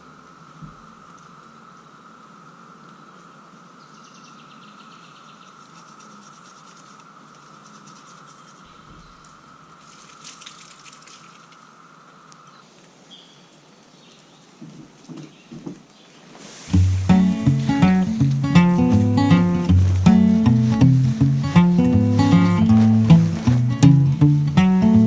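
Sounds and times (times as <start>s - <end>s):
buzzy pulsing insect trills: 0.0s - 12.6s, 16.8s - 25.0s
insect chorus drone: 0.0s - 14.4s, 16.9s - 25.0s.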